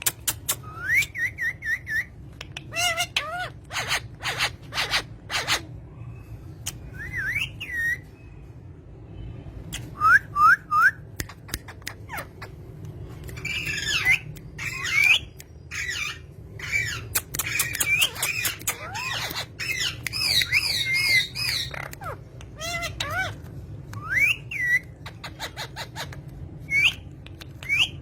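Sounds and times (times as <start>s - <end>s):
parrots squawking and chirping: 0.0s - 8.2s, 11.3s - 28.0s.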